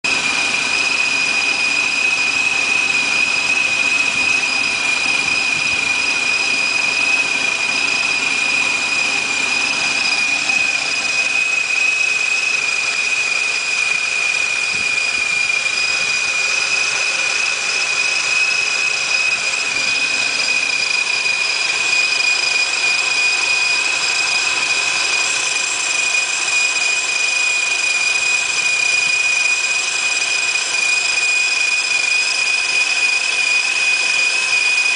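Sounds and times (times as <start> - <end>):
supercharger whine: 0.0 - 34.9.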